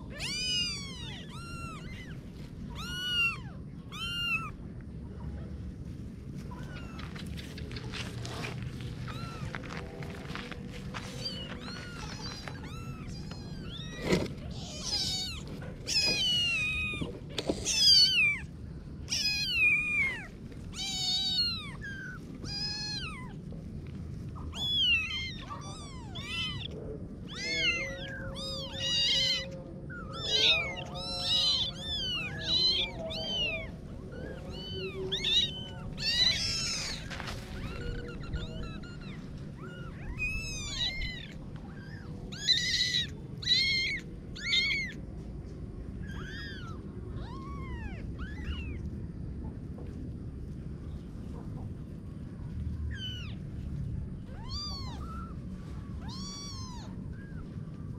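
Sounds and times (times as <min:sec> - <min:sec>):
kittens meowing: 0:00.0 - 0:50.0, 0:52.7 - 0:57.9.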